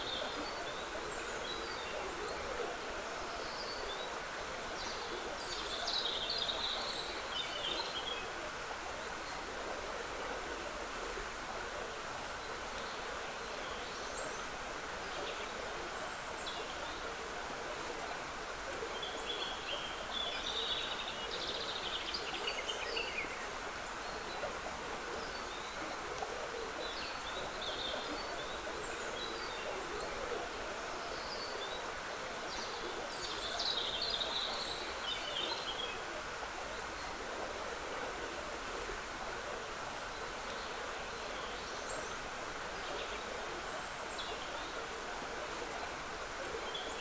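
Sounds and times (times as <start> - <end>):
songbird song: 0.0 - 47.0.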